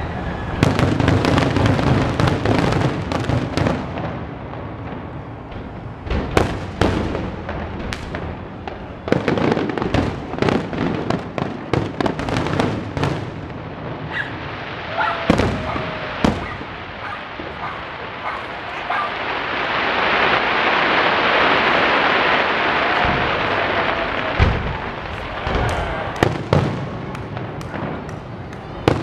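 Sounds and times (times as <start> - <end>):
firework crackling: 0.0 - 29.0.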